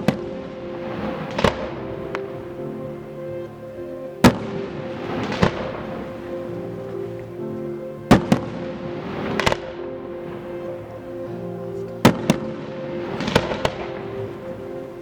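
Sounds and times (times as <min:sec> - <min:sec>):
background music: 0:00.0 - 0:15.0
fireworks bursting: 0:00.0 - 0:15.0.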